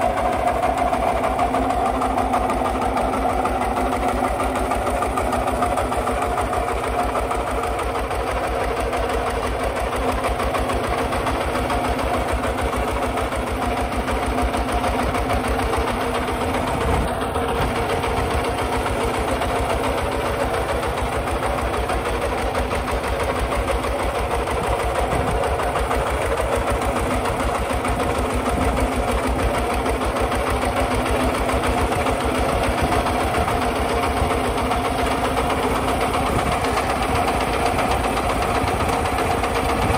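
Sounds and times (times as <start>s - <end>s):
diesel engine thudding: 0.0s - 39.9s.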